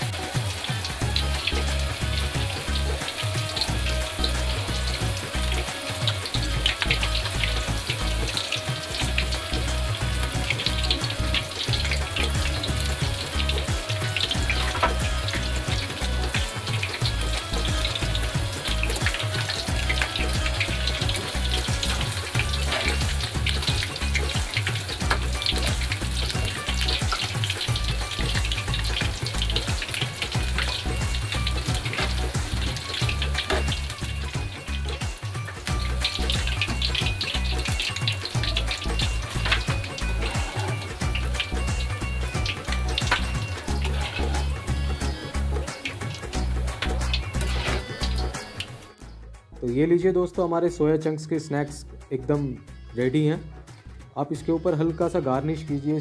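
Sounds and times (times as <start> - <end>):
oil sizzling and crackling: 0.0 - 49.0
music with bass beat: 0.0 - 50.5.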